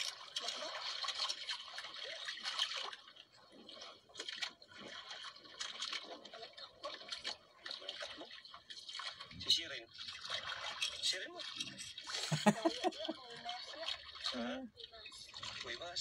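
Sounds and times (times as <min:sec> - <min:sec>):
water lapping against boat: 0:00.0 - 0:16.0.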